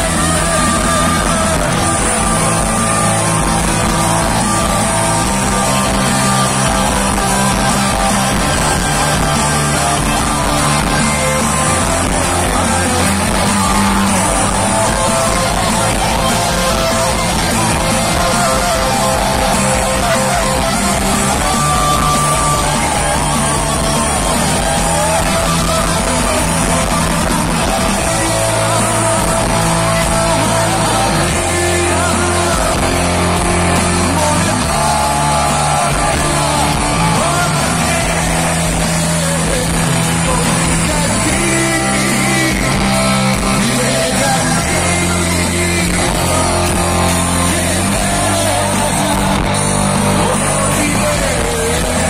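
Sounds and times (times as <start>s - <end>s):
person singing: 0.0s - 52.0s
rock band playing live: 0.0s - 52.0s.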